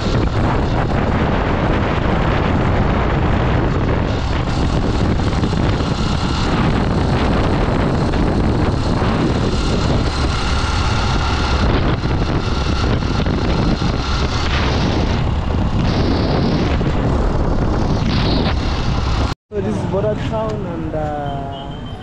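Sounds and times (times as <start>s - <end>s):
wind buffeting microphone: 0.0s - 21.2s
motorcycle engine and tyres: 0.0s - 22.0s.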